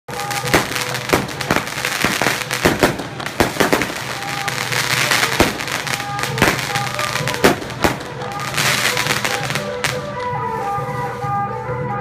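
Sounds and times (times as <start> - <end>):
firecrackers banging: 0.1 - 11.6
music with held tones: 0.1 - 12.0.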